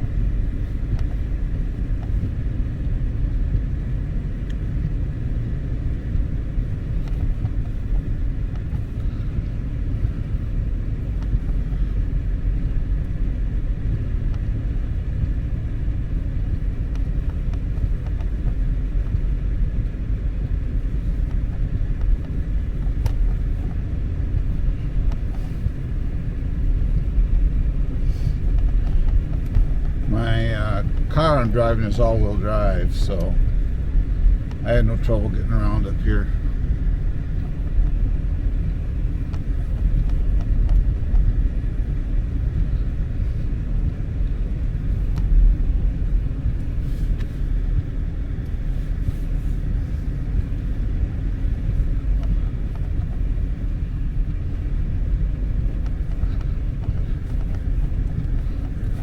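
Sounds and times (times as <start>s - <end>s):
road and engine rumble in car: 0.0s - 59.0s.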